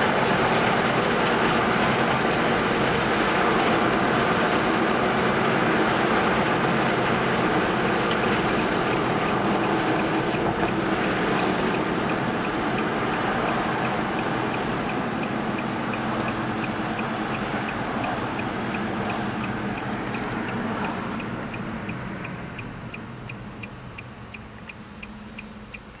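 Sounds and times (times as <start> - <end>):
road and tyre noise: 0.0 - 26.0
turn signal ticking: 3.1 - 26.0.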